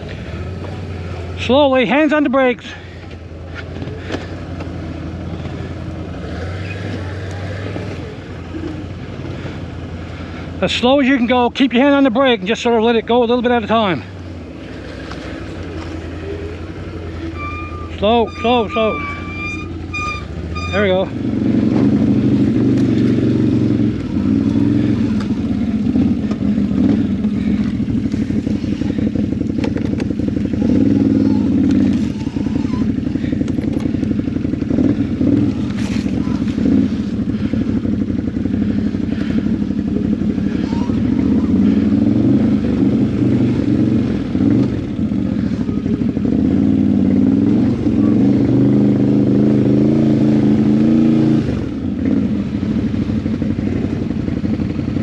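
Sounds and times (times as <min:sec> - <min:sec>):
atv engine at low revs: 0:00.0 - 0:55.0.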